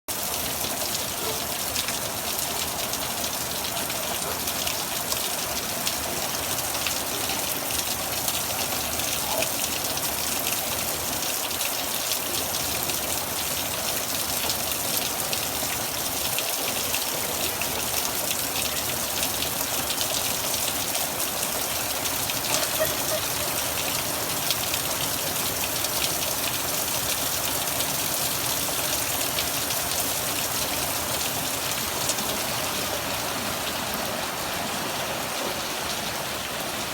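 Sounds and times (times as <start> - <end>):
heavy rain pouring: 0.1 - 36.9.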